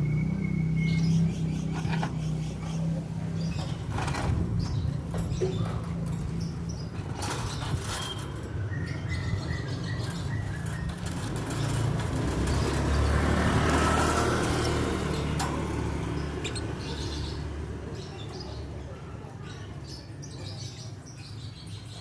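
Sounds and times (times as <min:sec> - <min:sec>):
passing vehicle engine rumble: 0:00.0 - 0:19.8
lovebirds chirping: 0:00.2 - 0:22.0.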